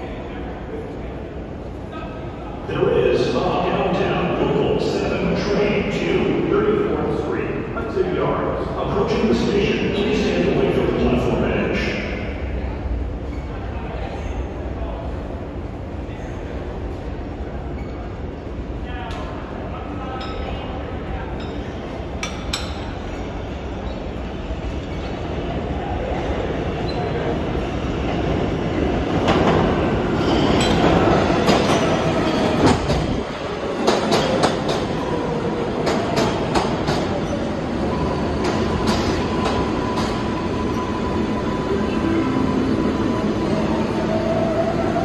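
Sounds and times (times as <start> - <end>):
subway train running: 0.0 - 45.0.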